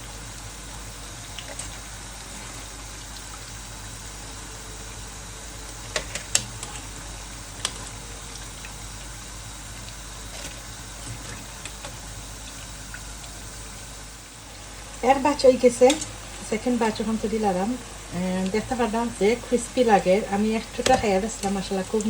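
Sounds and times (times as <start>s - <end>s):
food deep-frying in hot oil: 0.0s - 22.0s.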